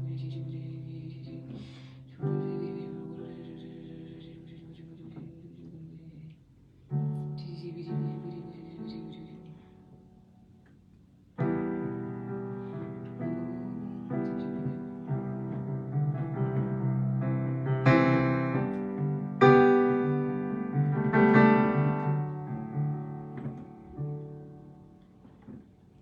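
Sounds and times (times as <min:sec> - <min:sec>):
piano playing slow chords: 0:00.0 - 0:06.2, 0:06.8 - 0:26.0.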